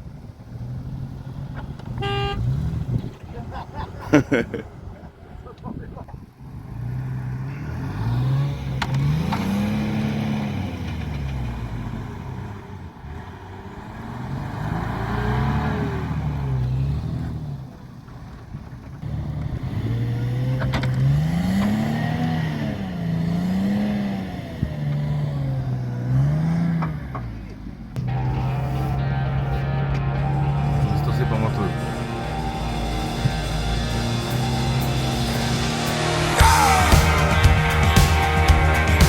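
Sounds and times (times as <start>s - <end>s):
vehicle engine revving: 0.0s - 39.0s.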